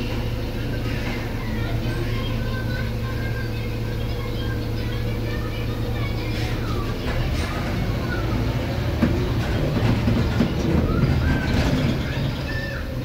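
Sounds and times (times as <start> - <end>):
bus body rattling: 0.0 - 13.0
bus diesel engine humming: 0.0 - 13.0.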